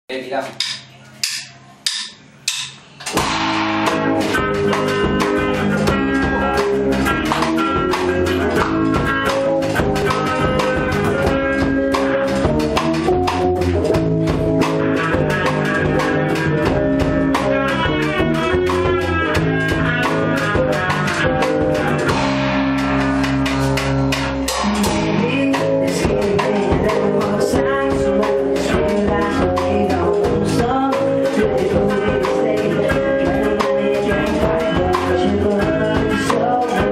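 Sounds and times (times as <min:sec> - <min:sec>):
rock band playing live: 0:00.6 - 0:36.9.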